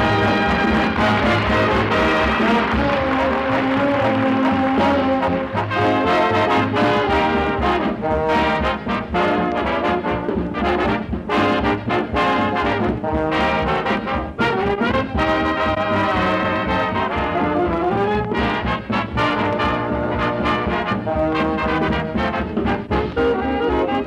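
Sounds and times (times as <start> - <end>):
brass music with short notes: 0.0 - 24.0.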